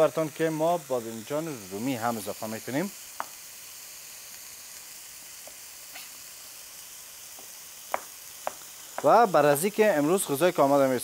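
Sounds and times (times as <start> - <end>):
chicken frying in a pan: 0.0 - 11.0.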